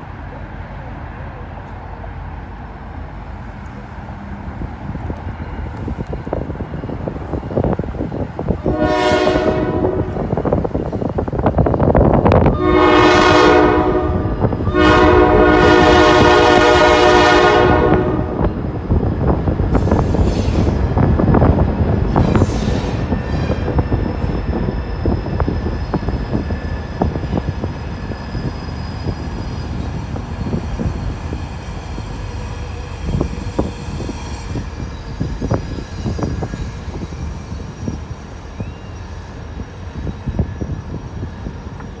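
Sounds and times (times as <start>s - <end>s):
freight train rumble: 0.0s - 42.0s.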